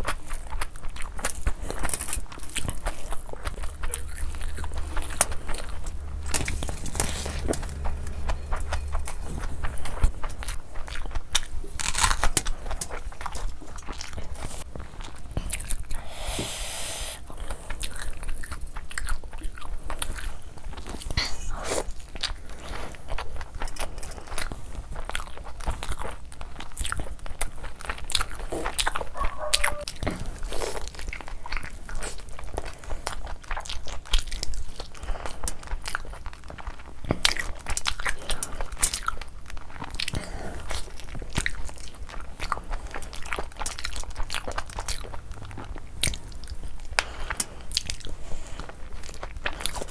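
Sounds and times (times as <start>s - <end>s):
person chewing with wet smacks: 0.0s - 49.9s.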